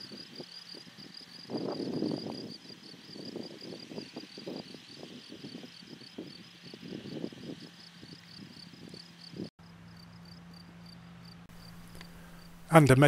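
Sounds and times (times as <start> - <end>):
insect chirping: 0.0 - 12.8.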